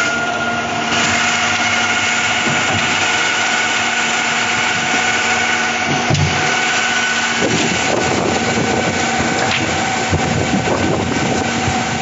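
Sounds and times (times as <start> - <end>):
concrete pump drone: 0.0 - 12.0
high machine whine: 0.0 - 12.0.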